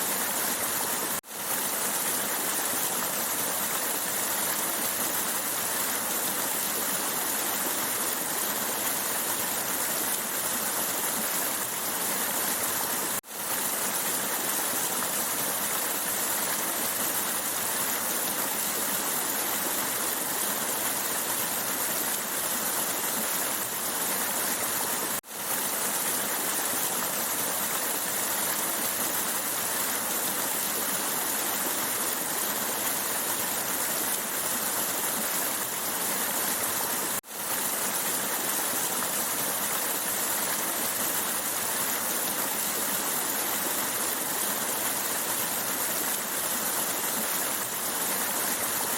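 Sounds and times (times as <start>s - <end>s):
stream rushing water: 0.0s - 48.9s.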